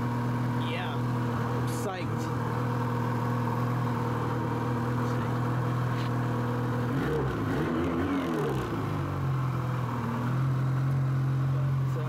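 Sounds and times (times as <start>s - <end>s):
snowmobile engine revving and idling: 0.0s - 12.0s.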